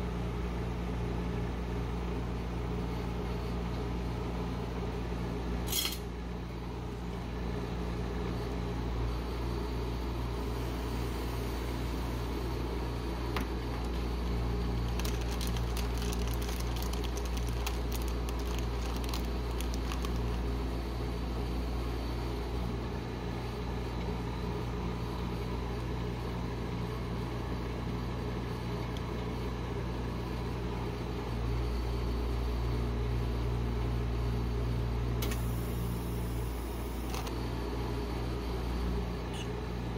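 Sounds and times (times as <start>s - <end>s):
refrigeration unit humming: 0.0s - 39.9s.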